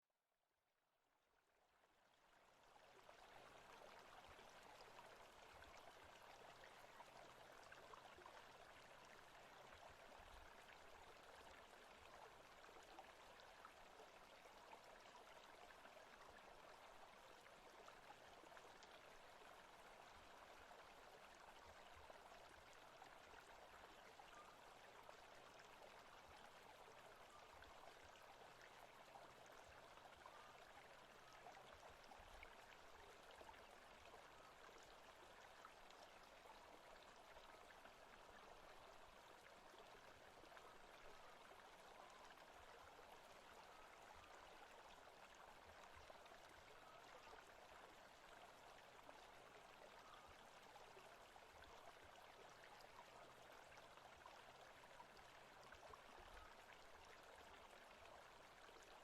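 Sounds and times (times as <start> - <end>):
stream running water: 1.8 - 59.0.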